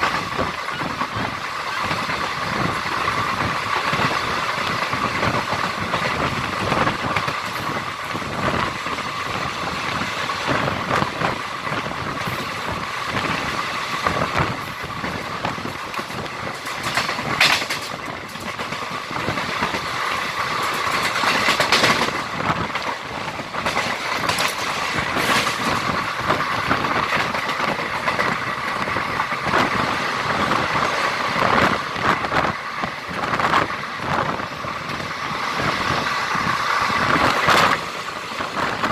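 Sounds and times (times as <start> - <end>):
loud train clanks: 0.0 - 38.9
train running wind noise: 0.0 - 38.9
train wheels clattering on rails: 0.0 - 38.9.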